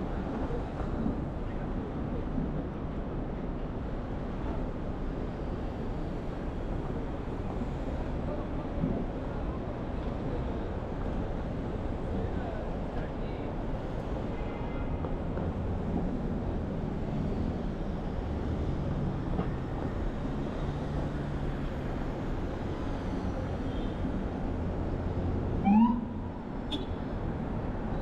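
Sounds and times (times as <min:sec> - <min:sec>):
city street traffic hum: 0:00.0 - 0:28.0.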